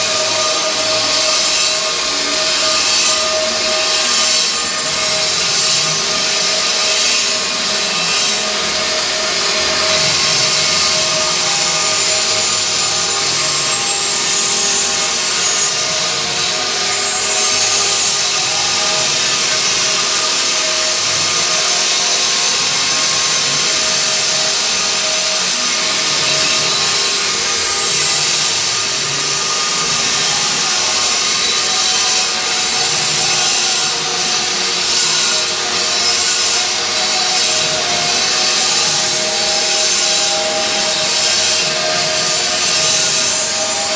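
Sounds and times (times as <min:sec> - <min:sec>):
constant machine whine: 0:00.0 - 0:43.9
router grinding stone: 0:00.0 - 0:43.9.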